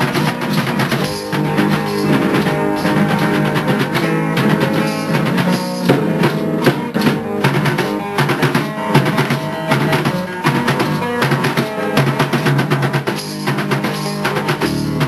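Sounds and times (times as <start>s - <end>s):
band music: 0.0s - 15.0s
drums: 0.0s - 15.0s
guitar: 0.0s - 15.0s.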